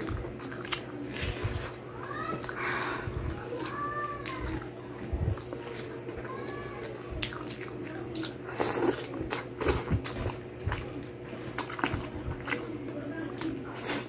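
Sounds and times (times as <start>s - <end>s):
person chewing and lip-smacking: 0.0s - 14.0s.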